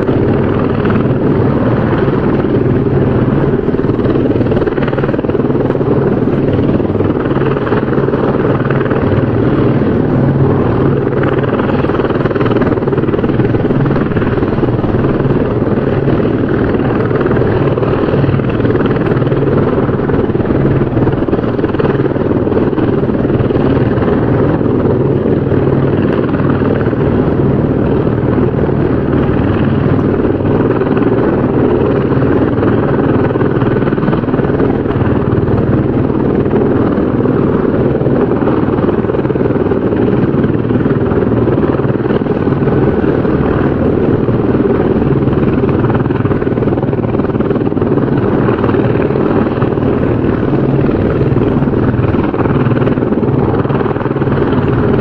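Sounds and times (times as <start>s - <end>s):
helicopter rotor chopping: 0.0s - 55.0s.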